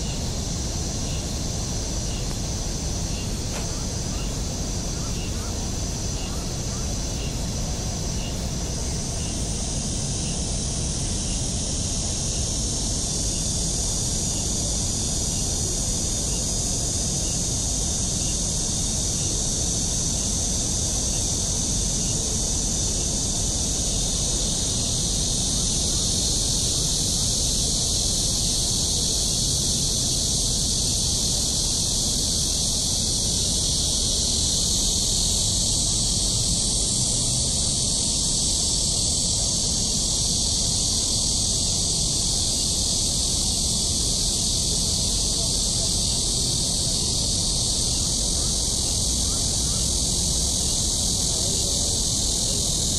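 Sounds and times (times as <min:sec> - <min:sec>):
constant high hiss: 0:00.0 - 0:52.9.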